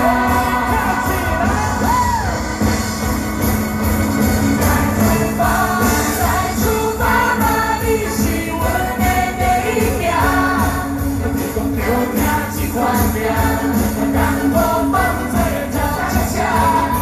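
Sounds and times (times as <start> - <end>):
choir singing pop song: 0.0 - 17.0.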